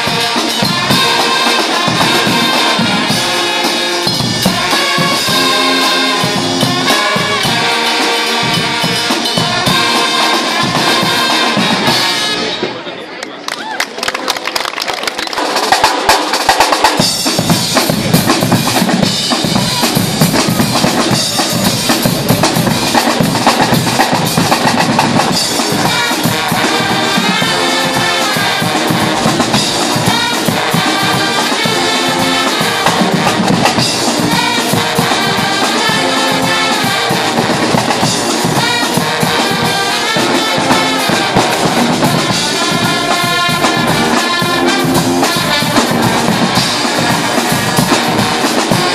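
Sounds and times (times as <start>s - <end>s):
driving drum beat: 0.0s - 12.5s, 15.2s - 48.9s
brass band carnival music: 0.0s - 13.4s, 14.4s - 48.9s.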